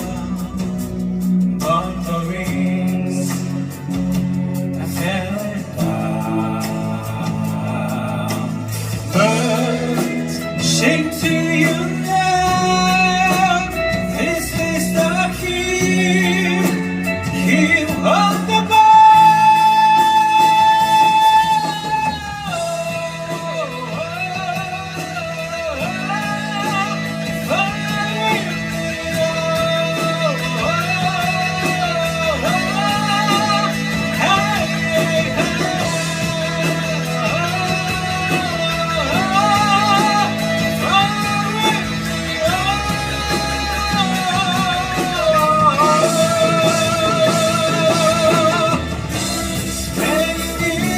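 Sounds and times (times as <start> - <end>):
instrumental rock music: 0.0 - 50.9.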